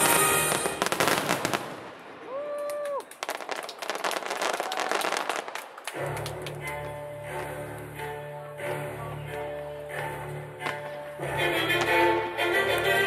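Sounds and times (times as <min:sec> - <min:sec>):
fireworks crackling and popping: 0:00.0 - 0:07.6, 0:10.0 - 0:13.0.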